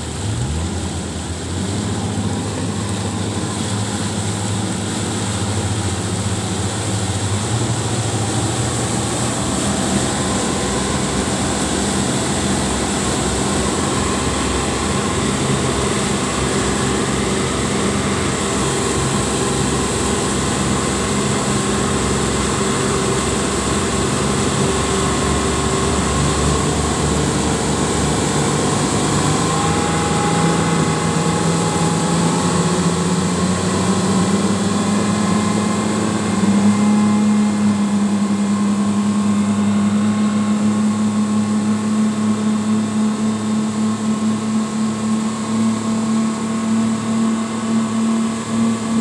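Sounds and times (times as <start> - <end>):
outboard motors running: 0.0 - 49.0.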